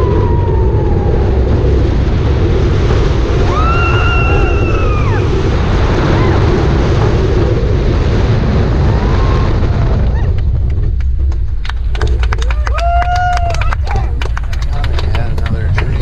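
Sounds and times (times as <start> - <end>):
roller coaster rumbling on track: 0.0 - 16.0
wind buffeting microphone: 0.0 - 16.0.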